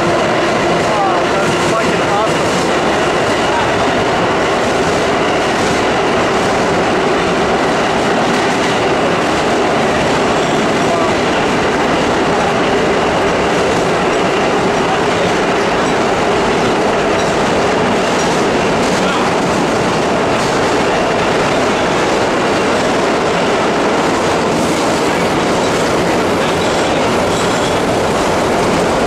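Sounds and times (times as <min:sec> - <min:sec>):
subway wheels rumbling on rails: 0:00.0 - 0:29.0.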